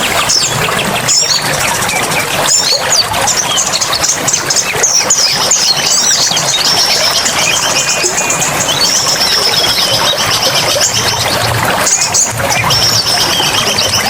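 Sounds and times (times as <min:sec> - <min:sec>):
songbirds chirping and whistling: 0:00.0 - 0:14.0.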